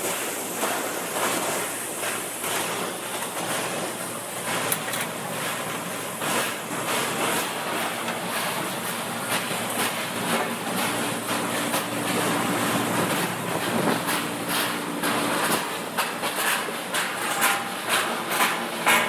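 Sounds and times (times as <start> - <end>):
low machine hum: 0.0 - 19.0
water churning and splashing: 0.0 - 19.0.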